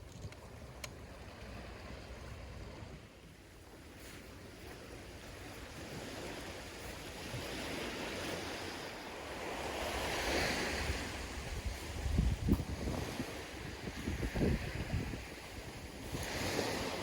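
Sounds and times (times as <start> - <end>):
sea waves washing onto shore: 0.1 - 17.0.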